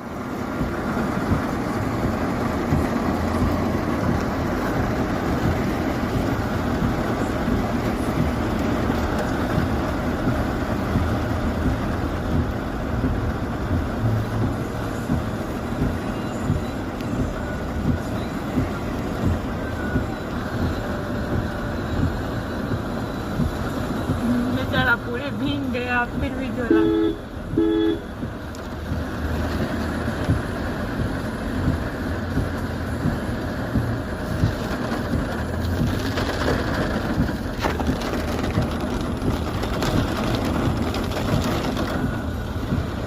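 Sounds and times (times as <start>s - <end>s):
moving vehicle rumbling: 0.0s - 43.0s.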